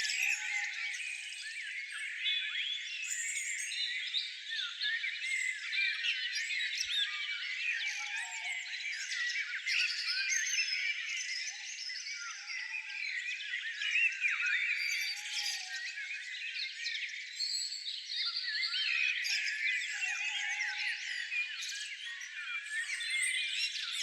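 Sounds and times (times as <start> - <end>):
dense chorus of birdsong: 0.0 - 24.0.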